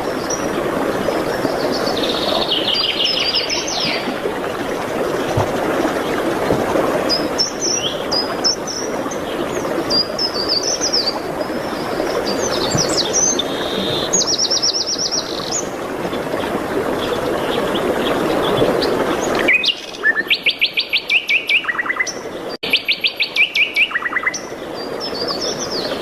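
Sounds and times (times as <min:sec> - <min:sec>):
songbirds singing: 0:00.1 - 0:04.8, 0:07.0 - 0:26.0.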